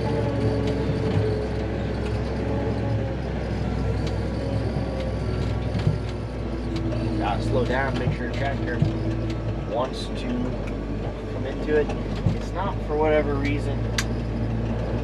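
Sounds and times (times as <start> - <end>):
tractor diesel engine rumbling: 0.0 - 15.0.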